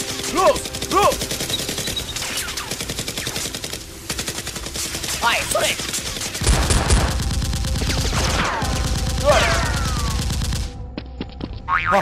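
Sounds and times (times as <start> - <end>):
rapid automatic gunfire: 0.0 - 10.8.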